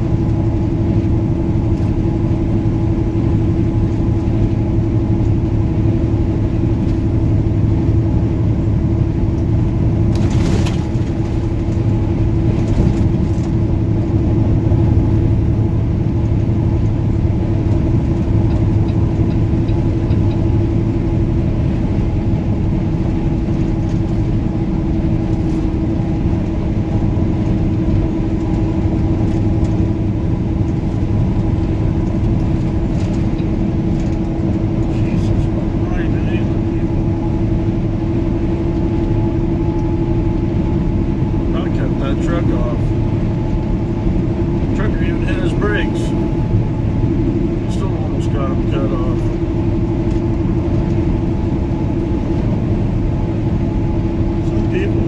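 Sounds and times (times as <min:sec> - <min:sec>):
road noise: 0:00.0 - 0:55.0
truck diesel engine drone: 0:00.0 - 0:55.0.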